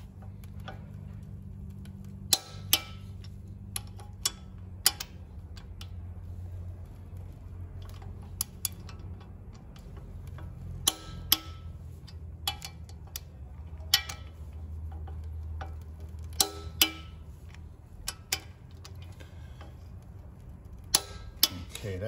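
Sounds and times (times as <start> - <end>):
torque wrench metallic clicks: 0.0 - 6.0, 7.8 - 17.2, 18.0 - 22.0
low hum: 0.0 - 22.0.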